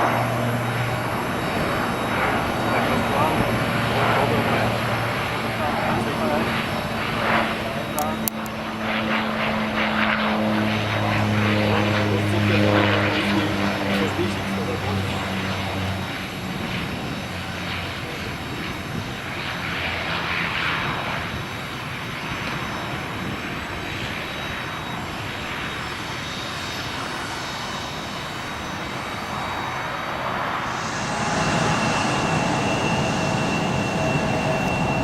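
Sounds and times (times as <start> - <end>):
aircraft engines running: 0.0 - 35.0
steady whine: 0.0 - 35.0.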